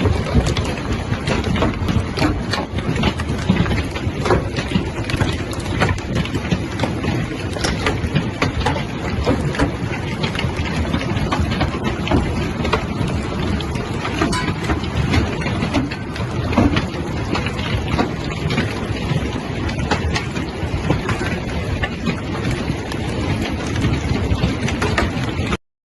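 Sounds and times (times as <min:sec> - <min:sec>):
hailstones striking: 0:00.0 - 0:25.6
steady rushing noise: 0:00.0 - 0:25.6.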